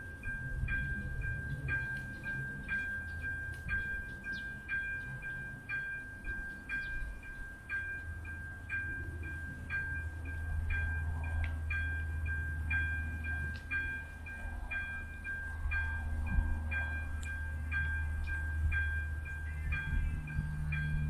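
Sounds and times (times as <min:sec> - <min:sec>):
level crossing bell ringing: 0:00.0 - 0:21.0
low rumble: 0:00.0 - 0:21.0.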